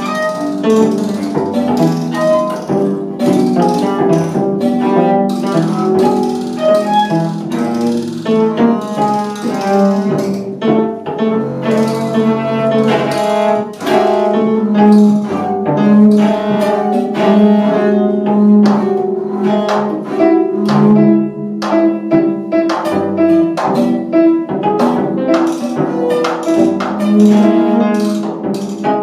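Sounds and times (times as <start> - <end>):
bowed cello: 0.0 - 29.0
double bass: 0.0 - 29.0.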